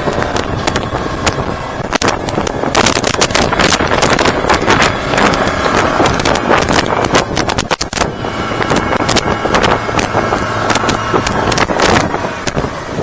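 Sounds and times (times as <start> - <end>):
outboard motor running: 0.0 - 13.0
wind buffeting microphone: 0.0 - 13.0.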